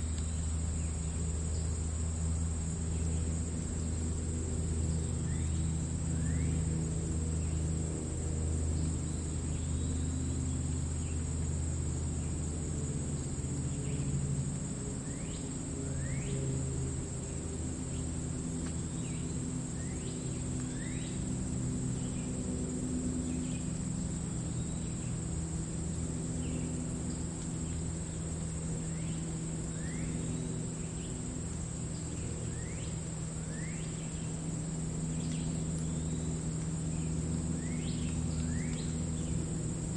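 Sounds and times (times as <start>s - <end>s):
crickets trilling: 0.0s - 39.9s
low steady rumble: 0.0s - 39.9s.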